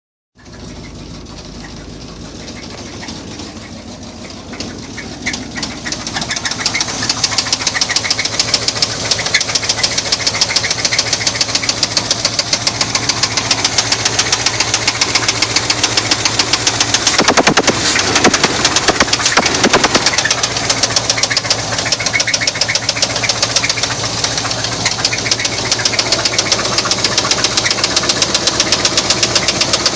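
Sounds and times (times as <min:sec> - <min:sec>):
fast rhythmic engine knock: 0:00.4 - 0:29.9
truck engine running: 0:00.4 - 0:29.9.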